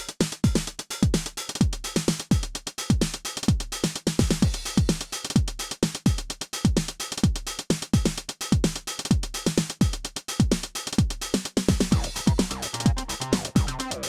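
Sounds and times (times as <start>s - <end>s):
drum machine bass drum: 0.0s - 14.0s
drum machine hi-hats and percussion: 0.0s - 14.0s.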